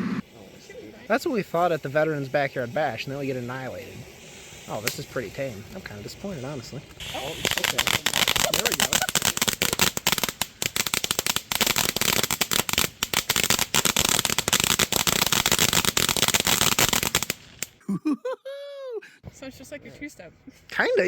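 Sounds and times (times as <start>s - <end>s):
firework crackling: 0.0s - 17.8s.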